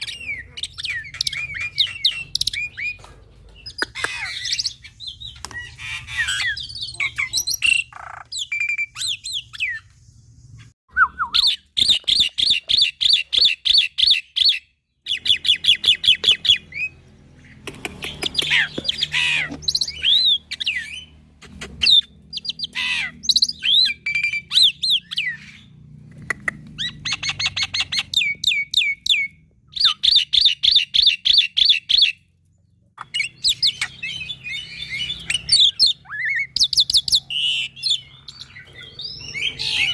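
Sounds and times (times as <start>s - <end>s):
starling singing: 0.0s - 9.9s, 11.1s - 25.8s, 26.4s - 32.3s, 33.0s - 39.9s.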